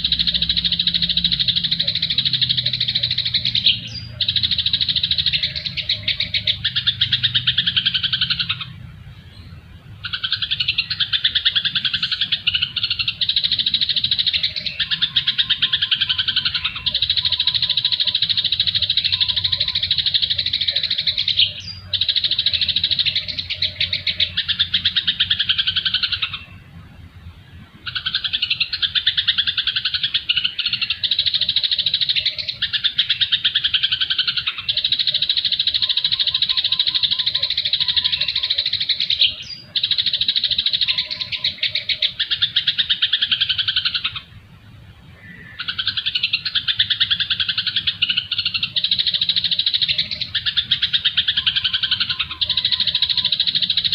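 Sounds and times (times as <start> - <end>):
songbird chattering trills: 0.0 - 26.8, 27.5 - 53.9.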